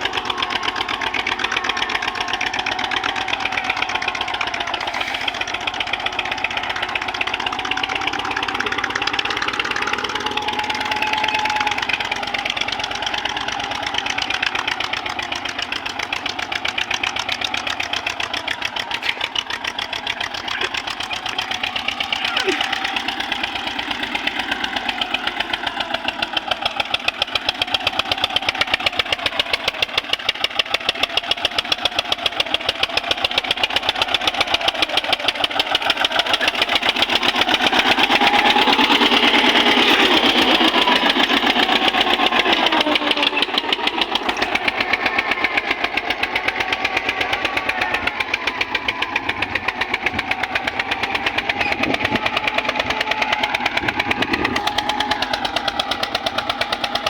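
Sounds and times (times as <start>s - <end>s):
tractor diesel engine chugging: 0.0s - 57.0s.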